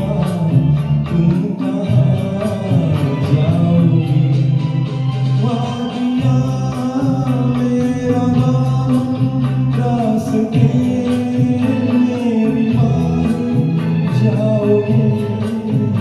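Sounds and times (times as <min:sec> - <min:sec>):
instrumental film song music: 0:00.0 - 0:16.0
steady percussion beat: 0:00.0 - 0:16.0.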